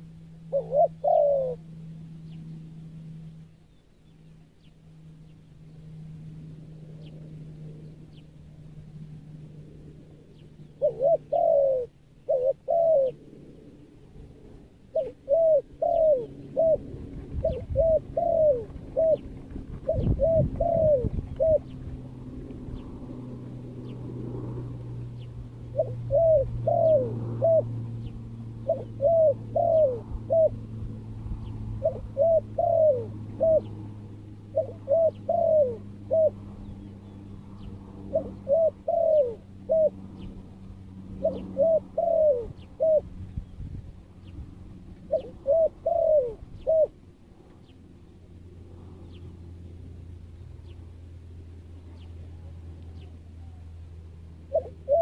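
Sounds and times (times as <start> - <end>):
dove cooing: 0.0 - 4.8, 10.1 - 51.1, 52.0 - 55.0.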